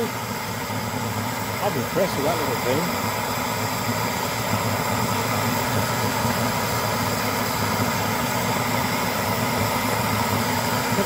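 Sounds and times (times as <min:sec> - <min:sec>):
pressure stove burner roaring: 0:00.0 - 0:11.0.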